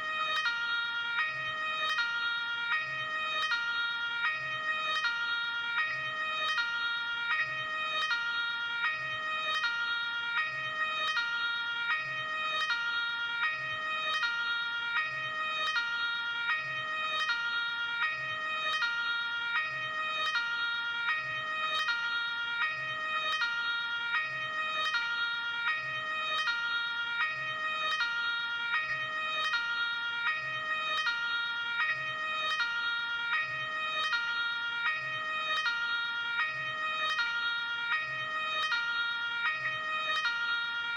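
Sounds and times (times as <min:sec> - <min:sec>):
ambulance two-tone siren: 0:00.0 - 0:40.9.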